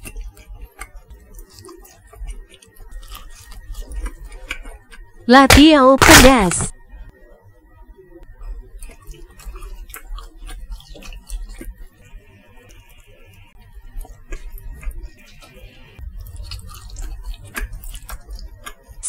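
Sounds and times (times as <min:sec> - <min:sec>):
chewing with wet mouth clicks: 0:00.0 - 0:05.1, 0:08.4 - 0:19.0.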